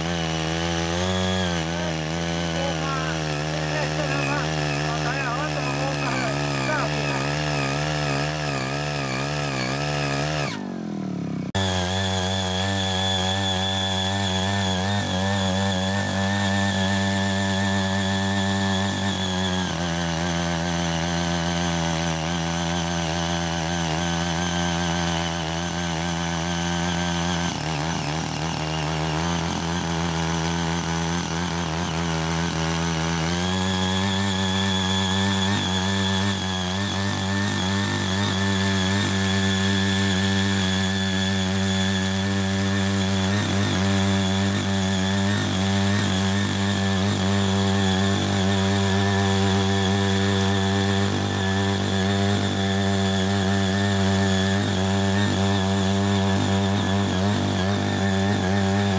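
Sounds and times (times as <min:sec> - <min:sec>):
small petrol engine running: 0:00.0 - 0:58.9
tines working through soil: 0:00.0 - 0:58.9.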